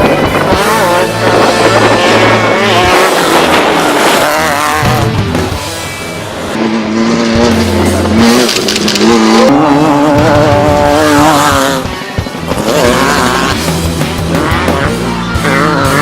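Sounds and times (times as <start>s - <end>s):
racing engine accelerating: 0.0s - 16.0s.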